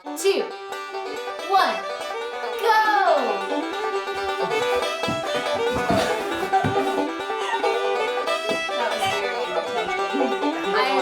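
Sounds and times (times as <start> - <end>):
upbeat bluegrass banjo music: 0.0 - 11.0.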